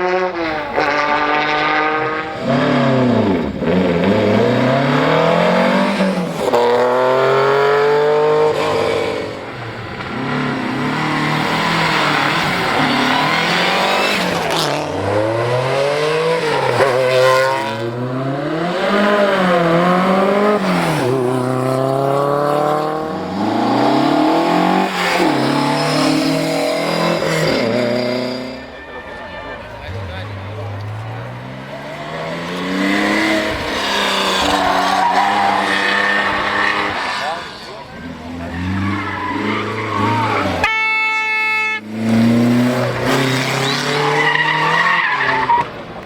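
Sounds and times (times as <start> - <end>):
rally car engine revving: 0.0 - 28.8, 29.6 - 40.7, 41.8 - 46.0.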